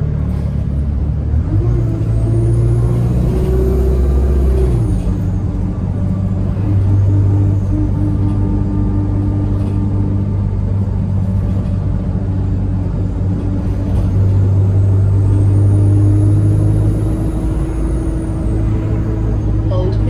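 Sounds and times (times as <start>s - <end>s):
bus engine hum: 0.0s - 20.0s
road rumble: 0.0s - 20.0s.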